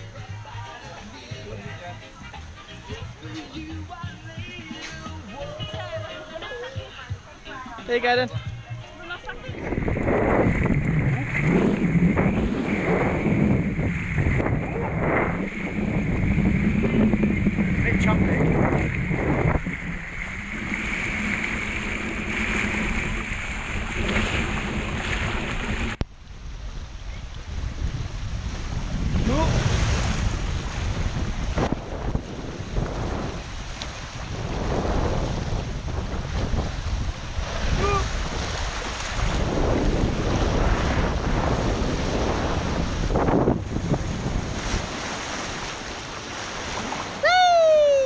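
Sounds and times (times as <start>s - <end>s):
choppy water sloshing: 0.0s - 47.4s
wind buffeting microphone: 6.7s - 47.2s.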